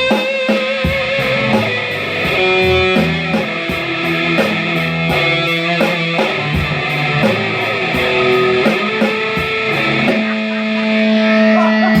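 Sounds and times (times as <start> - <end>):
plucked guitar notes and chord: 0.0 - 12.0.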